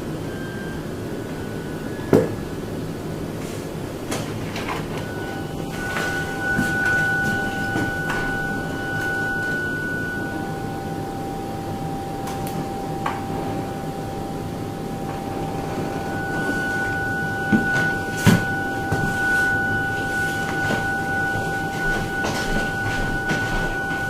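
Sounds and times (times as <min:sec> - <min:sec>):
higher pure tone: 0:00.0 - 0:24.0
low rumbling background: 0:00.0 - 0:24.0
steady pure tone: 0:00.0 - 0:24.0.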